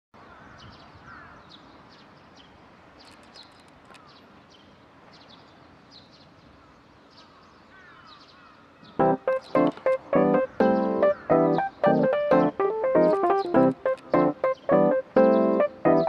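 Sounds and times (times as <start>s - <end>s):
steady background noise: 0.2s - 16.0s
birds chirping: 0.3s - 16.0s.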